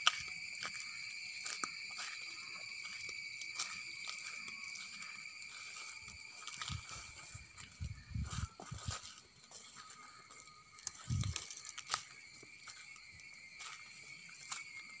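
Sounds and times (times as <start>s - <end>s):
high-pitched background drone: 0.0s - 15.0s.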